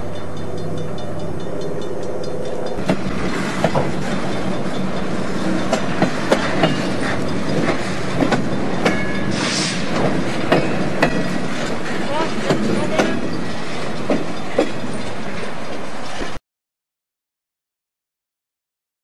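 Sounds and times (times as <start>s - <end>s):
train rumble: 0.0s - 16.4s
train wheels clacking over rail joints: 0.1s - 16.4s.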